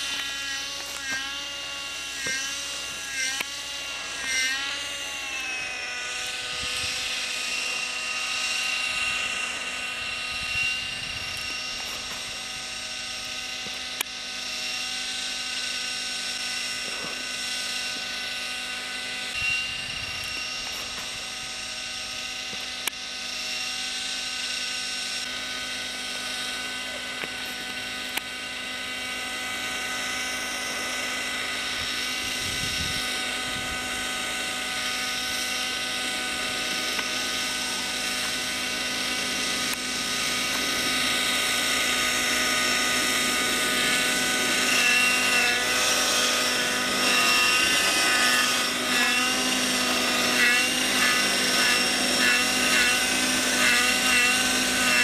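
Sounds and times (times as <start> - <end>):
model helicopter engine whine: 0.0 - 55.0.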